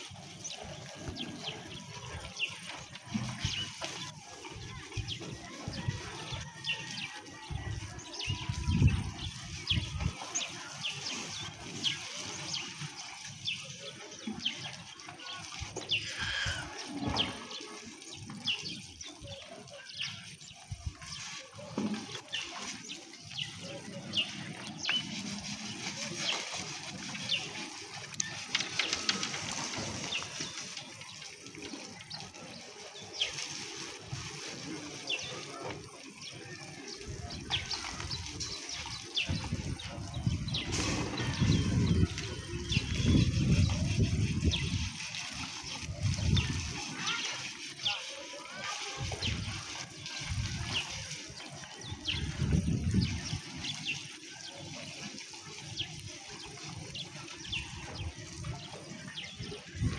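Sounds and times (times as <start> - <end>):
small birds chirping: 0.0 - 33.6, 34.4 - 54.9.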